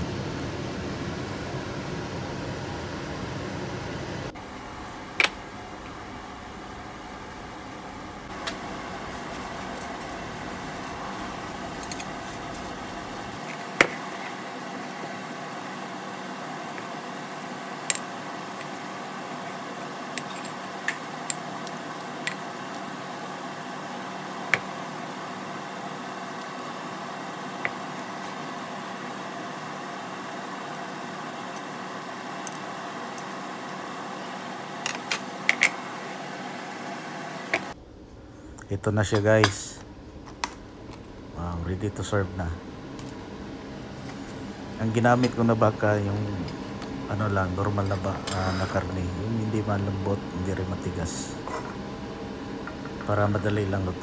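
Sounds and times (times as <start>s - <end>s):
kitchen appliance hum: 0.0s - 54.0s.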